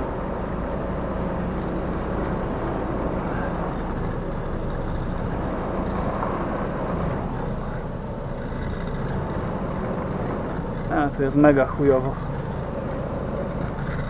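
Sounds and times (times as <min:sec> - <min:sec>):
truck diesel engine drone: 0:00.0 - 0:14.0.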